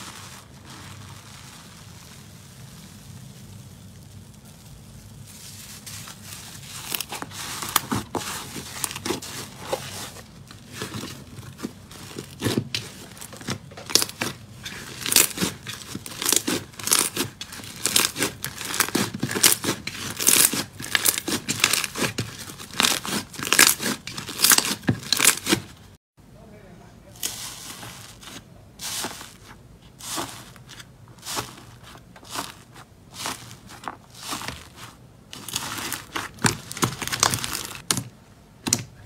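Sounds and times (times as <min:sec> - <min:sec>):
slime crackling and popping: 0:00.0 - 0:25.8, 0:27.2 - 0:38.0.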